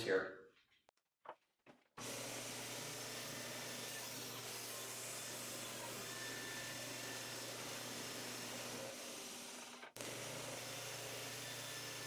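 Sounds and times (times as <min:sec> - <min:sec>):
band saw running: 0:02.0 - 0:12.0.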